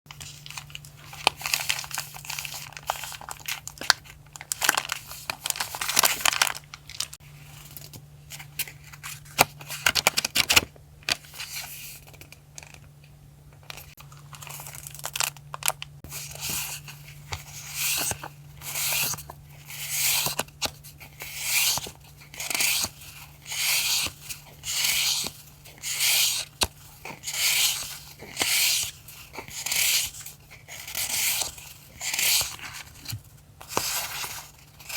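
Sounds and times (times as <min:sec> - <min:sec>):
paper crinkling: 0:00.1 - 0:12.8, 0:13.7 - 0:34.9.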